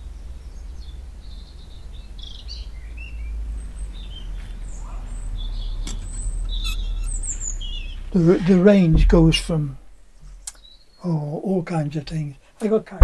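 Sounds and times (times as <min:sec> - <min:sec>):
low steady rumble: 0:00.0 - 0:10.5
birds chirping: 0:00.0 - 0:12.8.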